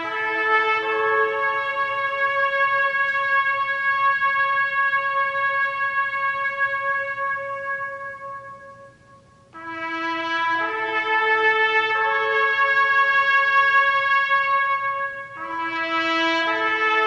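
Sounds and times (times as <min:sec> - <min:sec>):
long held instrumental chords: 0:00.0 - 0:17.0.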